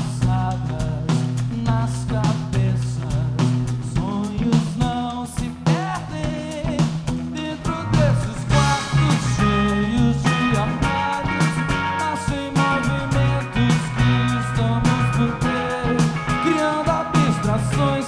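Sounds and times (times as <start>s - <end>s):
drum kit: 0.0s - 18.0s
electric guitar: 0.0s - 18.0s
man singing: 0.0s - 18.0s.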